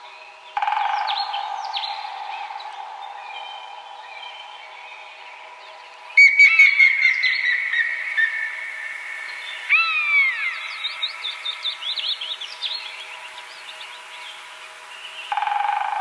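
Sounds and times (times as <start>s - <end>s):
birds singing: 0.0s - 16.0s.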